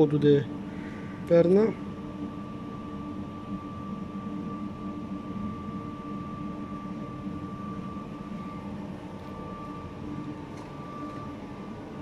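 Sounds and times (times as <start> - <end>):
machine hum: 0.0 - 12.0
thin high whine: 0.0 - 12.0.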